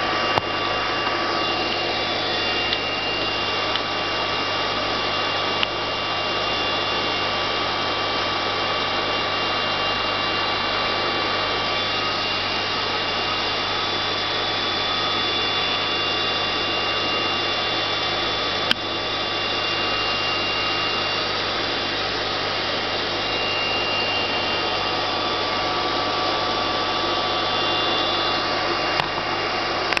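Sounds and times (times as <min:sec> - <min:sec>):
air pump humming: 0:00.0 - 0:30.0.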